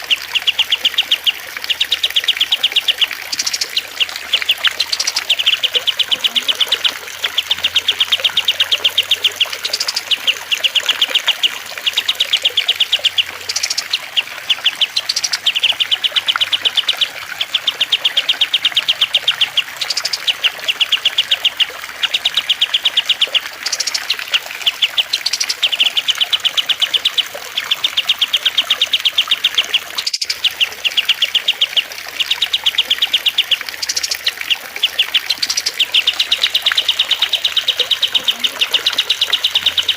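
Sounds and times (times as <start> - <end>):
songbird chattering trill: 0.0 - 39.9.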